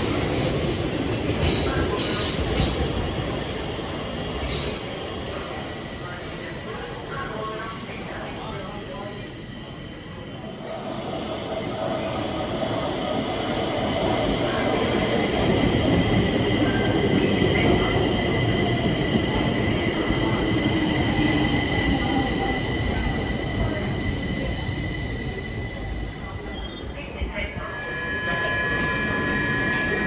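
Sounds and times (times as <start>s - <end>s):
metro train rumbling on track: 0.0s - 30.0s.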